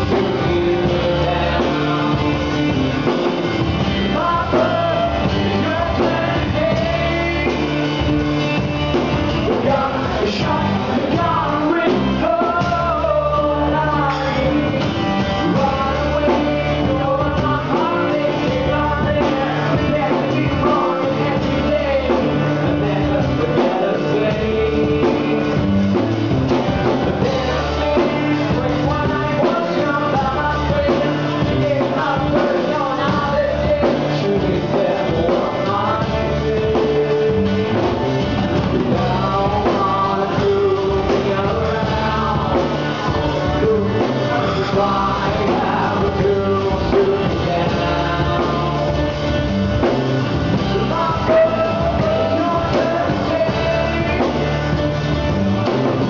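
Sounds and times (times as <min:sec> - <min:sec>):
acoustic guitar: 0:00.0 - 0:56.0
man singing: 0:00.0 - 0:56.0
rock band playing: 0:00.0 - 0:56.0.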